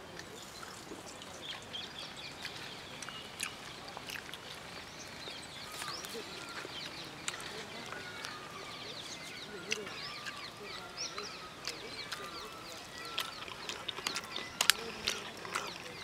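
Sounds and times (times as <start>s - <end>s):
rural background ambience: 0.0s - 16.0s
small birds chirping: 0.0s - 16.0s.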